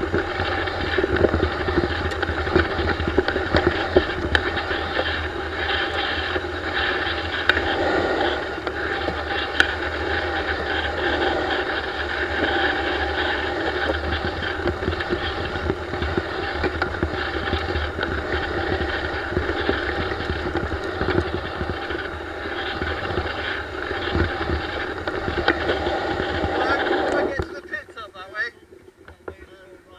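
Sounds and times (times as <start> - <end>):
motorcycle engine running: 0.0 - 27.6.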